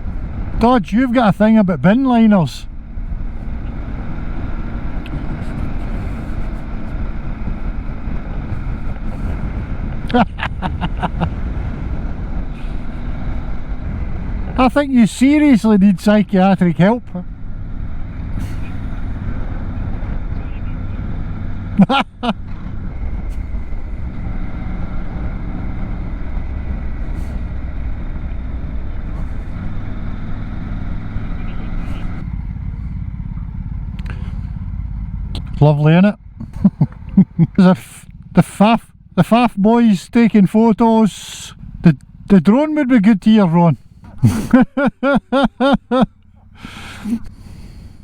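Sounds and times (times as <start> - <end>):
motorcycle engine hum: 0.0 - 48.0.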